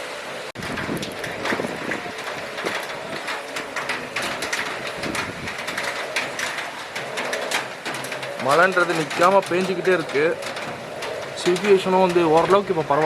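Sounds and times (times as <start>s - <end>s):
gusting wind: 0.0s - 13.0s
heavy rain falling: 0.0s - 13.0s.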